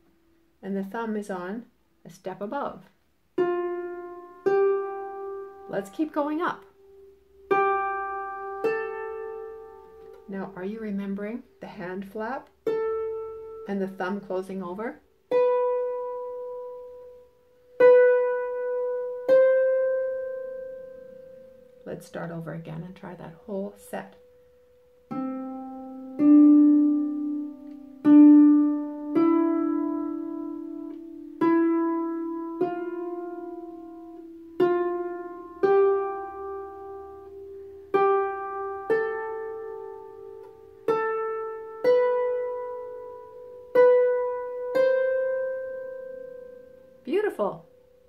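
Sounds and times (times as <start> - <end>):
harp notes plucked: 2.4 - 48.0.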